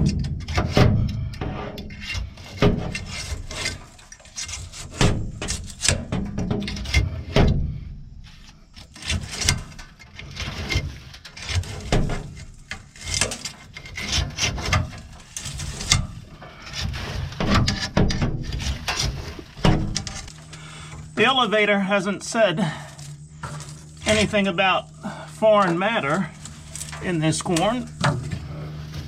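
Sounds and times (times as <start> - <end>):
rubbing and scraping on screen: 0.0 - 7.6, 8.2 - 22.1, 22.9 - 29.0.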